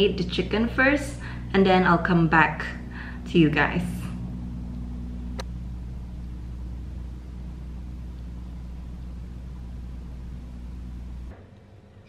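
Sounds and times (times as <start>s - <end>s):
low droning hum: 0.0s - 12.0s.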